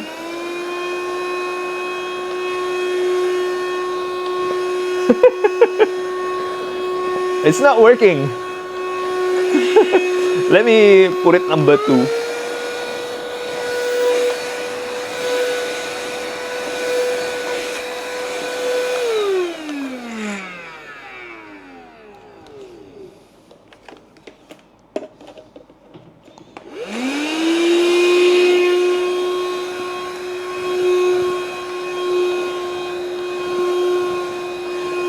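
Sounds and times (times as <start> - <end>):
vacuum cleaner motor whine: 0.0 - 35.0.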